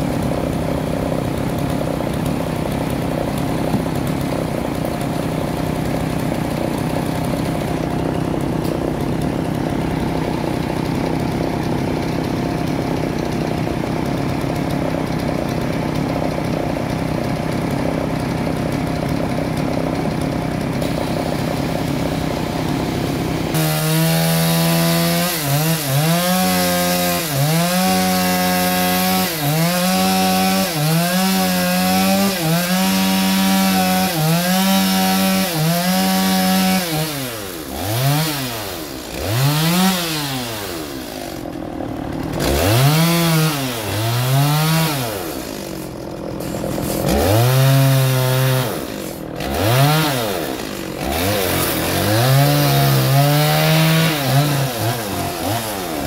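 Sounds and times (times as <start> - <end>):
band sawmill running: 0.0 - 56.0
saw blade cutting log: 0.0 - 56.0.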